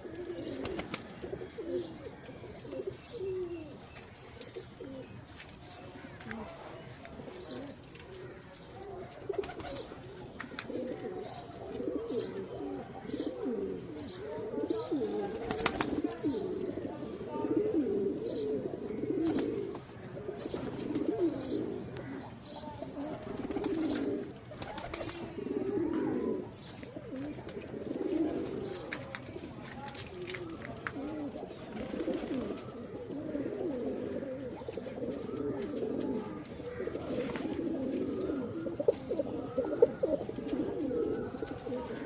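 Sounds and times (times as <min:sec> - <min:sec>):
pigeons cooing: 0:00.0 - 0:05.3, 0:06.0 - 0:42.0.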